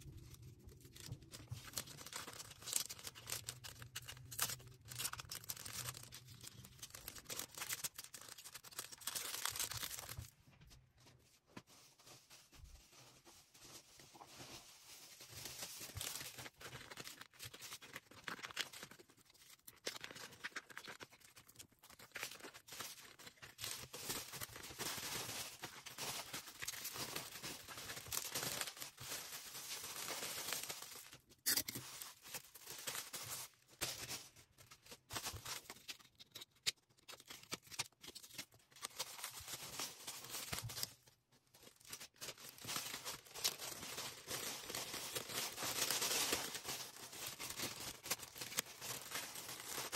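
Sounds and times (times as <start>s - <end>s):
packaging rustling and tearing: 0.0s - 10.4s, 11.6s - 49.9s.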